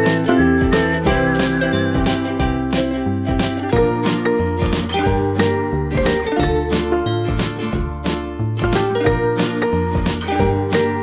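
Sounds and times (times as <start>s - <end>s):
upbeat music with steady beat: 0.0s - 11.0s.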